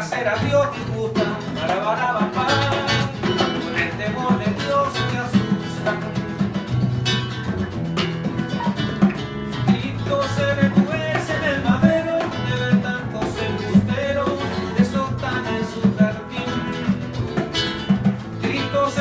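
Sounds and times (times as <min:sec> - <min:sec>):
strummed acoustic guitar: 0:00.0 - 0:19.0
live band playing: 0:01.0 - 0:19.0.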